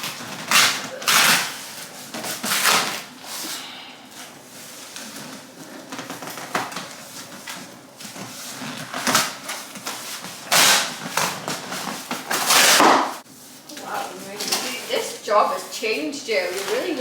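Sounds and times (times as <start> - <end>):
rustling and knocking of handled objects: 0.0 - 17.0.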